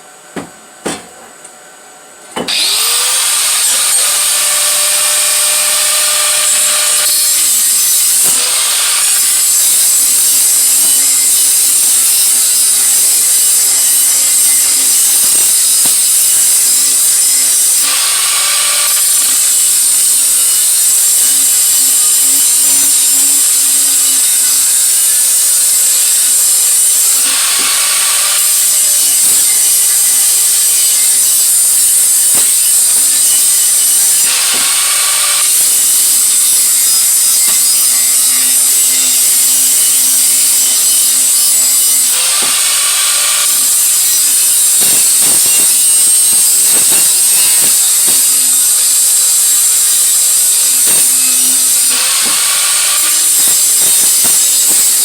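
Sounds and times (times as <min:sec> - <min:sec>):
power tool grinding metal pipe: 0:02.4 - 0:55.0.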